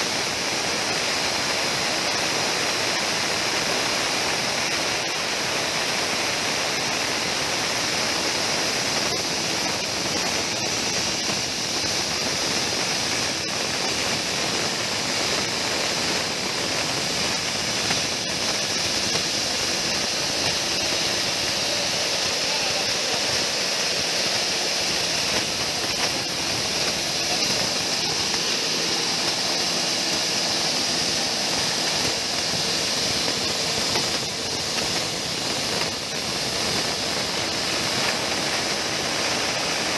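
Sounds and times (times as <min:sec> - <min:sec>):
coffee huller machine running: 0:00.0 - 0:39.9.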